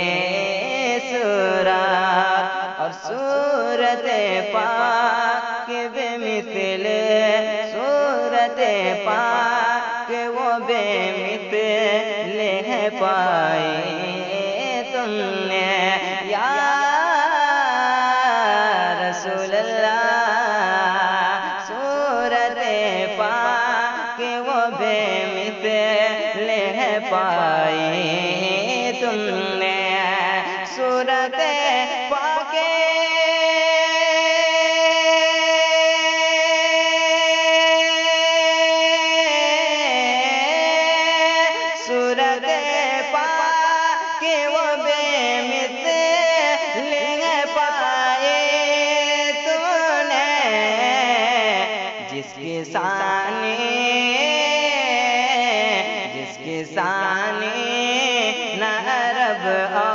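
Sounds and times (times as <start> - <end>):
man singing melismatic melody: 0.0 - 59.9.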